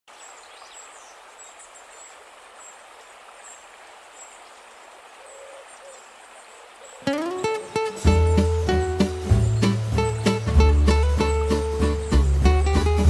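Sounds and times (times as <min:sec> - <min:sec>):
bird chirping: 0:00.1 - 0:02.8, 0:03.4 - 0:13.0
steady hiss: 0:00.2 - 0:13.0.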